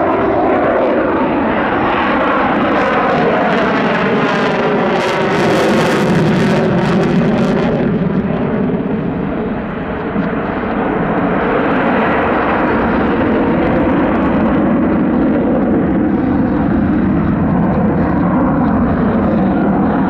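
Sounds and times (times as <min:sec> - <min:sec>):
aircraft engine noise: 0:00.0 - 0:20.0.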